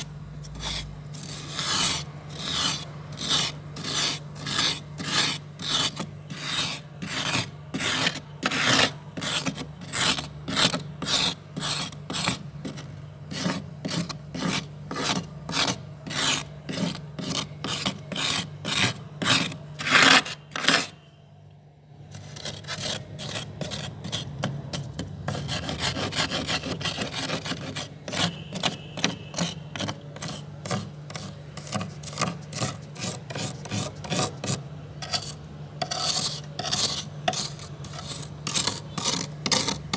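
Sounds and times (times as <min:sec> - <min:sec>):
metal spoon scraping frost: 0:00.0 - 0:21.1, 0:22.1 - 0:39.9.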